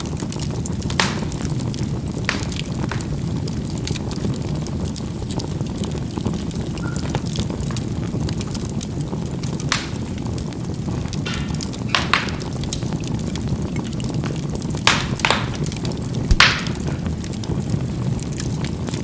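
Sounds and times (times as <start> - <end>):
charcoal crackling and popping: 0.0 - 19.0
low rumble of flame: 0.0 - 19.0.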